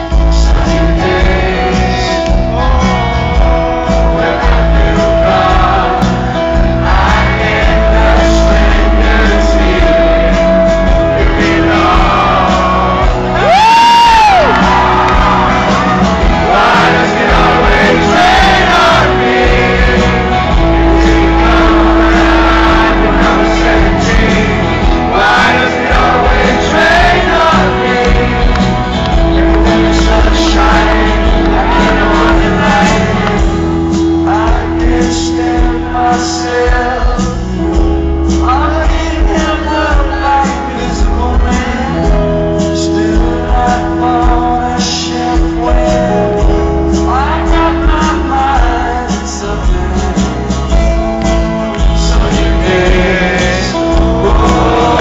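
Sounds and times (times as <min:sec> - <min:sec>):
person singing: 0:00.0 - 0:10.6, 0:11.2 - 0:50.8, 0:51.8 - 0:55.0
crowd shouting and singing along: 0:00.0 - 0:55.0
live band playing pop-rock: 0:00.0 - 0:55.0.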